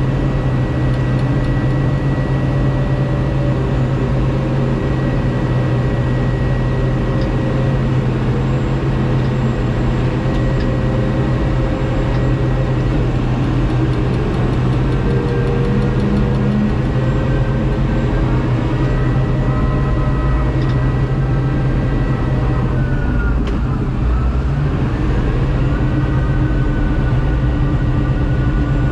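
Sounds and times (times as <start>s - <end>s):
heavy machine engine running: 0.0s - 28.9s.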